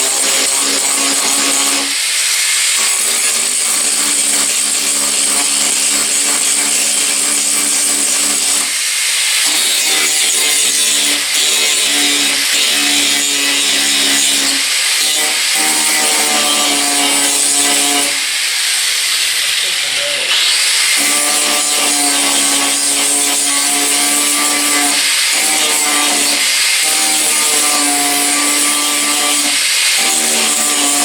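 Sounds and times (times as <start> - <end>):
power tool grinding metal: 0.0 - 31.0.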